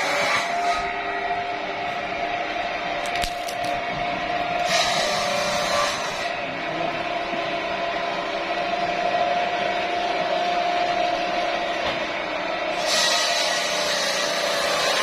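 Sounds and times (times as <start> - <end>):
sawmill saw whining: 0.0 - 15.0.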